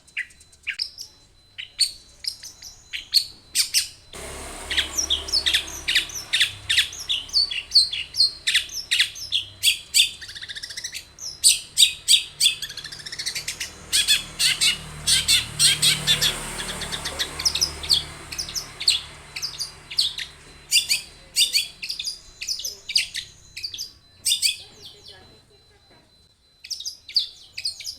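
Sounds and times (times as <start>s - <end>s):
bird singing sharp chirps: 0.0s - 25.3s.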